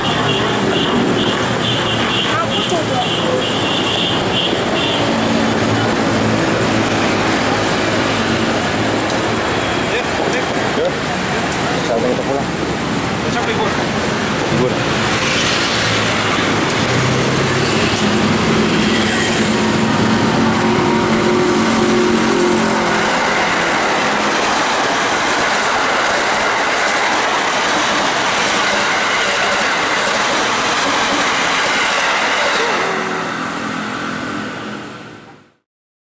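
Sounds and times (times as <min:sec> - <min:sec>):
train wheels rumbling: 0:00.0 - 0:34.8.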